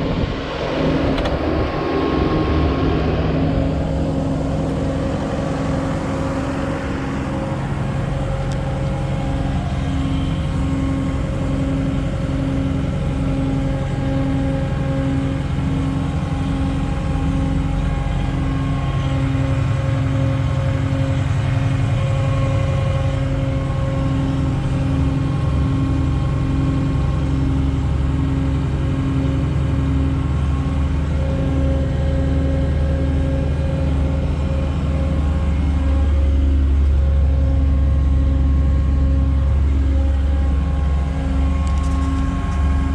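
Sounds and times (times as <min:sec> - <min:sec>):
diesel engine running: 0:00.0 - 0:42.9
pulsing low tone: 0:00.0 - 0:42.9.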